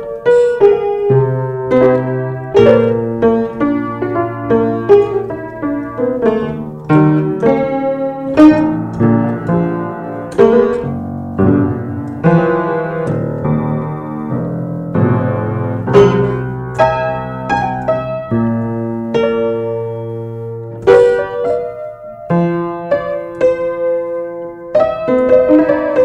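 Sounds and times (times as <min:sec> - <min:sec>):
piano notes and chords: 0:00.0 - 0:26.0.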